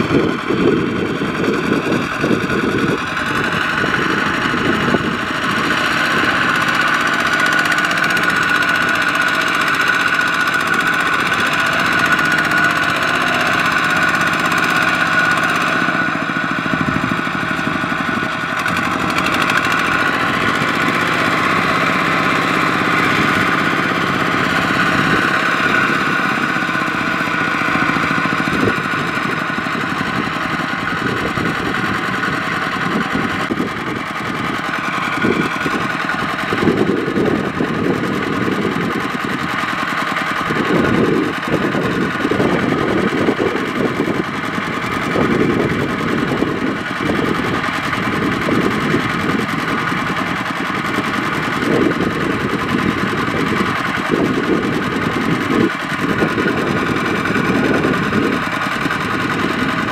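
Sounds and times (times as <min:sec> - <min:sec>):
diesel tractor engine knocking: 0:00.0 - 0:59.9.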